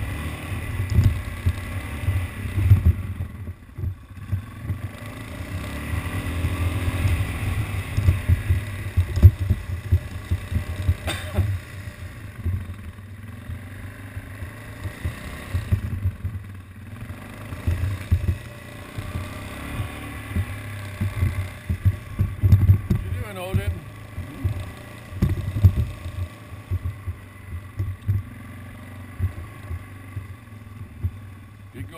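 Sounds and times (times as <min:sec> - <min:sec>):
quad engine running: 0:00.0 - 0:31.9
low thumps: 0:00.7 - 0:04.9, 0:06.2 - 0:16.7, 0:17.5 - 0:31.8.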